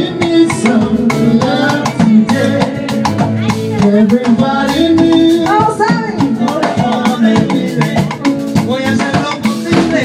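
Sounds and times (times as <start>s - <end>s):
live band playing salsa: 0.0s - 10.0s.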